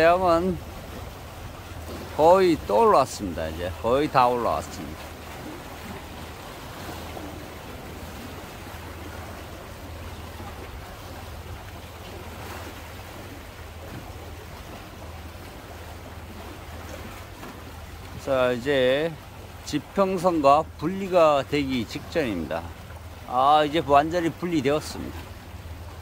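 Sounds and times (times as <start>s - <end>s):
sea washing against rocks: 0.0s - 25.4s.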